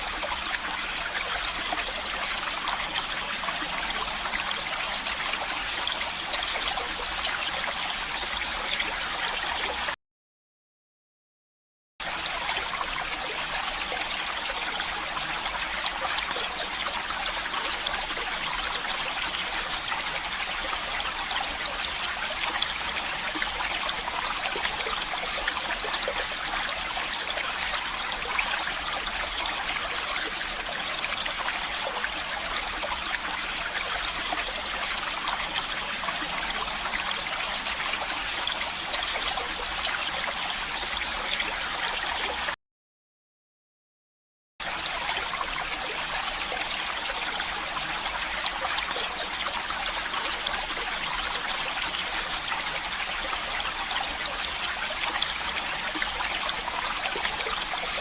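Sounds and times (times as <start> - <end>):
running water stream: 0.0 - 10.0, 12.0 - 42.6, 44.6 - 58.0.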